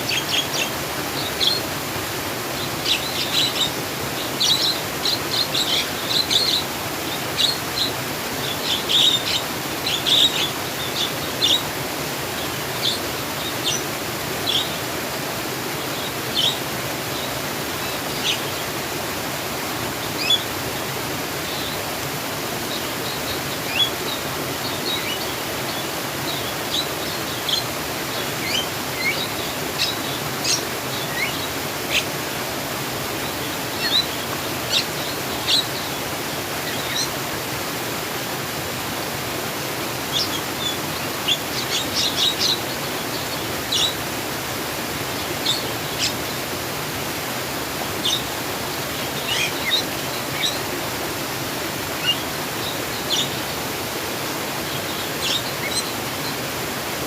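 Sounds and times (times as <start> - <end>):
small birds chirping: 0.0 - 18.9, 19.6 - 38.3, 39.4 - 46.6, 47.2 - 56.5
flowing water rushing: 0.0 - 57.0.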